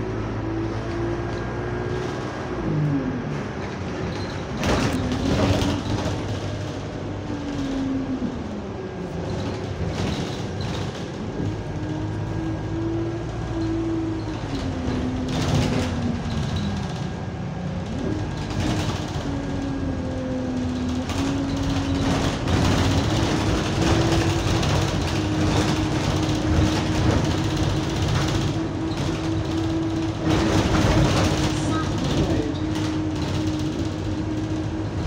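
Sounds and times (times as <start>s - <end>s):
bus engine drone: 0.0s - 35.0s.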